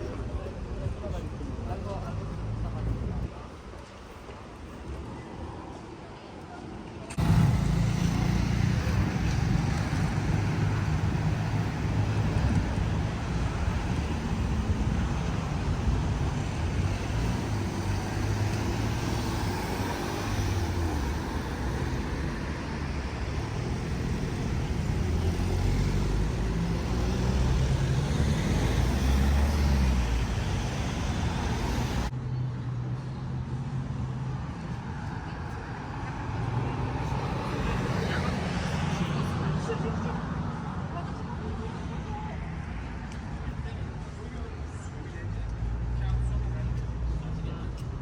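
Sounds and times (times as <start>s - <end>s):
street traffic rumble: 0.0s - 48.0s.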